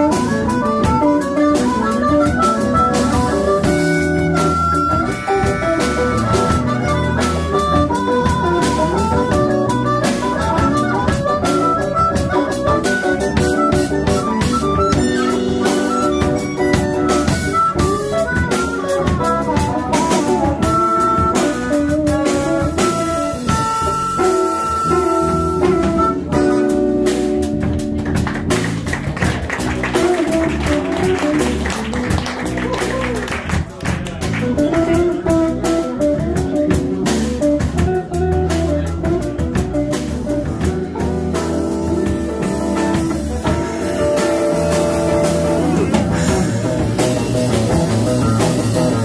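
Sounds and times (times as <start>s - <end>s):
drum kit: 0.0s - 49.0s
electric bass: 0.0s - 49.0s
electric guitar lead line: 0.0s - 49.0s.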